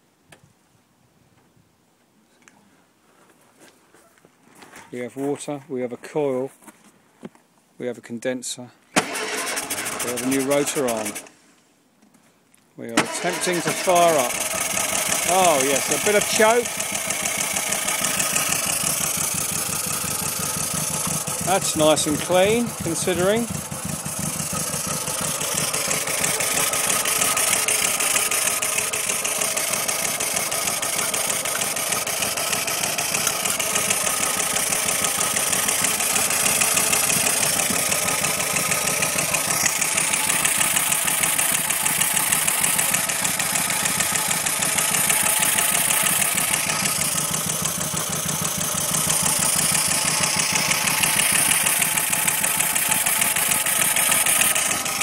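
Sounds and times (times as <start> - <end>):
car engine running: 9.0 - 11.3, 13.0 - 55.0.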